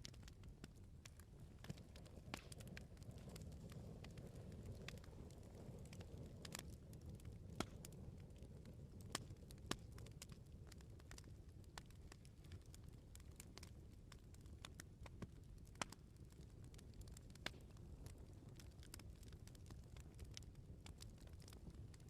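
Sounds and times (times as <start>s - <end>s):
fire crackling and popping: 0.0s - 22.0s
rumble of flames: 0.0s - 22.0s.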